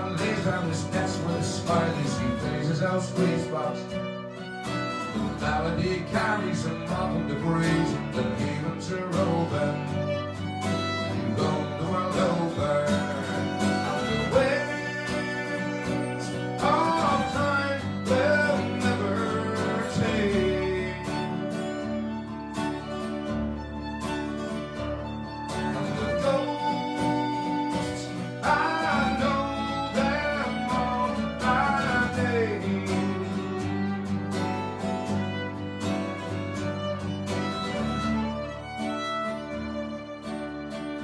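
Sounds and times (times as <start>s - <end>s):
fiddle playing melody: 0.0s - 41.0s
guitar accompaniment: 0.0s - 41.0s.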